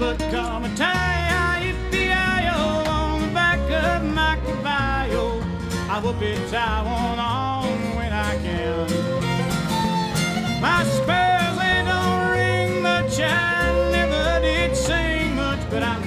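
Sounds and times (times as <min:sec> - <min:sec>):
instrumental country music: 0:00.0 - 0:16.0.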